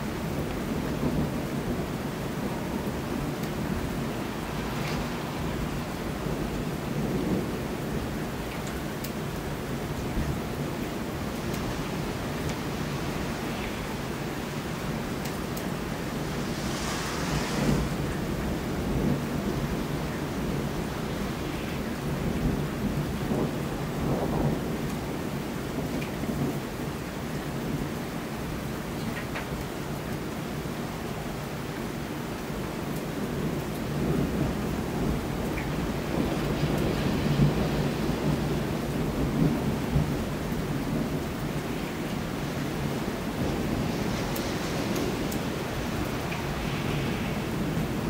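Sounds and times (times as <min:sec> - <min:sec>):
rain falling: 0:00.0 - 0:48.0
thunder rumbling: 0:00.2 - 0:26.6, 0:33.2 - 0:48.0.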